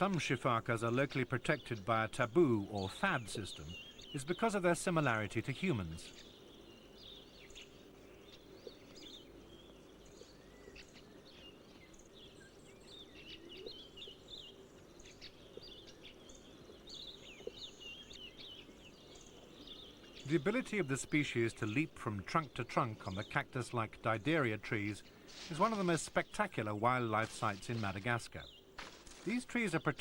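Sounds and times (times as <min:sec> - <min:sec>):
bird chirps and calls: 0:00.0 - 0:30.0
faint steady hum: 0:00.0 - 0:30.0.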